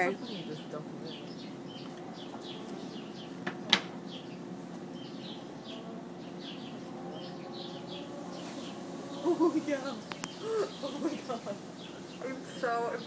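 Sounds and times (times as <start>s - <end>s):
bird chirping: 0.0s - 13.0s
honeybees buzzing: 0.0s - 13.0s.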